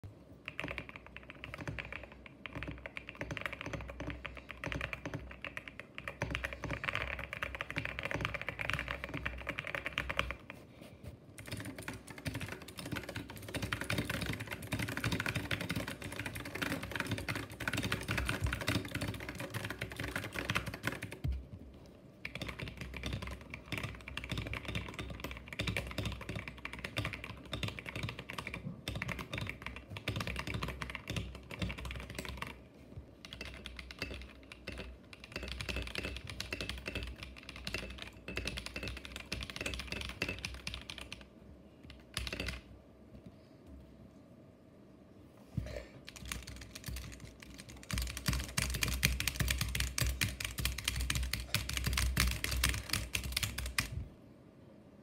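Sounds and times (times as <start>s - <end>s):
typing on mechanical keyboards: 0.4s - 10.6s, 11.4s - 21.4s, 22.2s - 32.6s, 33.2s - 42.7s, 46.0s - 54.0s.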